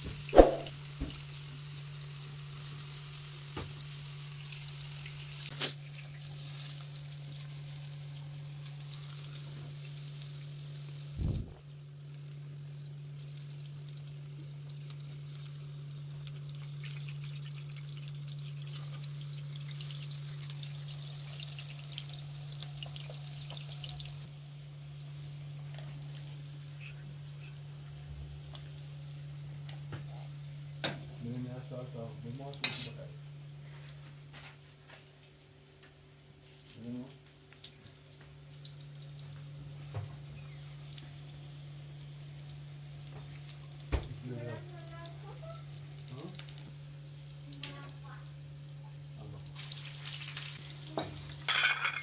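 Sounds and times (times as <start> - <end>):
eggplant sizzling in oil: 0.0 - 52.0.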